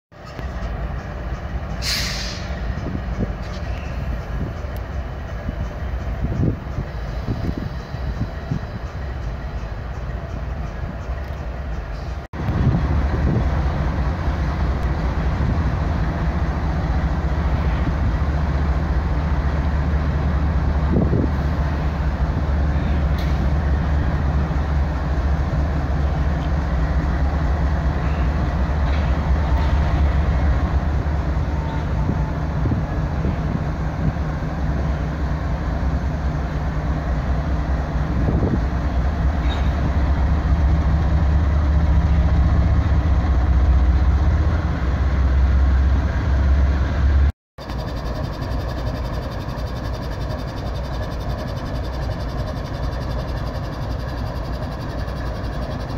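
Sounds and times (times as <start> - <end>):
locomotive engine droning: 0.2 - 55.9.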